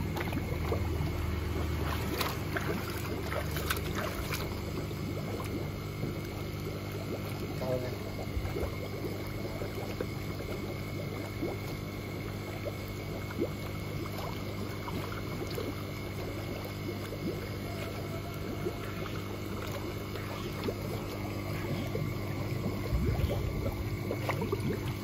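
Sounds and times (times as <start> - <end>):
low machine hum: 0.0 - 25.0
water splashing and trickling: 0.0 - 25.0.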